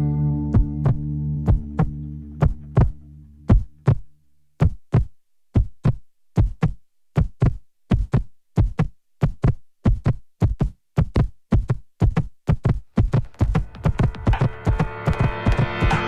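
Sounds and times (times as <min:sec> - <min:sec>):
heartbeat-like thumps: 0:00.5 - 0:16.0.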